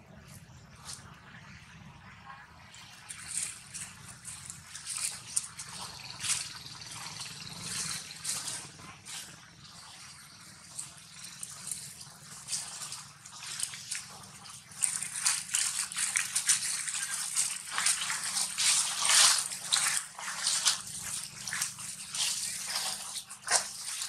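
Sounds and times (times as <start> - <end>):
dry leaves crackling: 3.0 - 9.4, 10.4 - 24.0.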